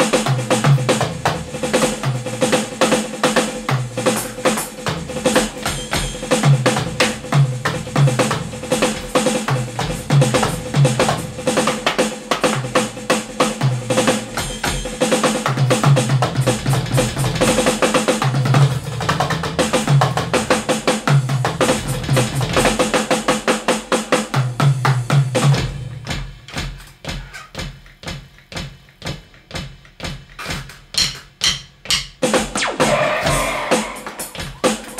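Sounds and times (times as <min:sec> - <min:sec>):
electronic drum groove: 0:00.0 - 0:34.9.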